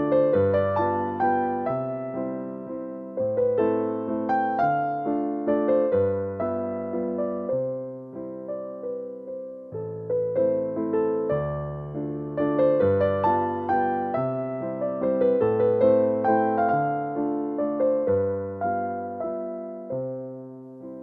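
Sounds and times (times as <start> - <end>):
keyboard melody: 0.0 - 21.0.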